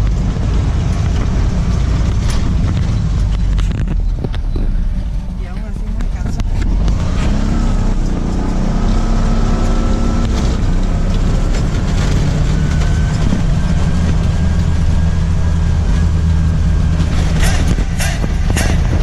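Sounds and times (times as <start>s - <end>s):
motorbike engine running: 0.0s - 19.0s.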